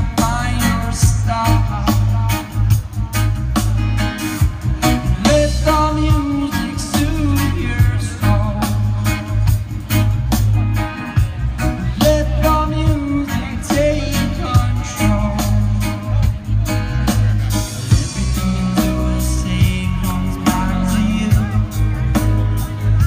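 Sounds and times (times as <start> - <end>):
person singing lead vocal: 0.0 - 3.4, 4.8 - 9.8, 11.2 - 23.0
live reggae band: 0.0 - 23.0.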